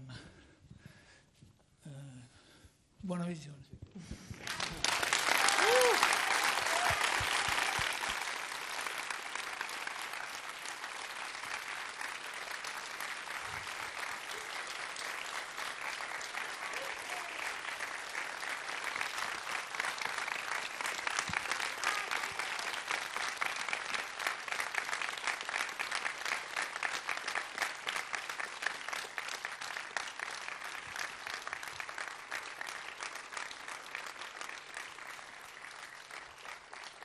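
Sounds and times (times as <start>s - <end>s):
audience applauding: 4.3s - 37.0s.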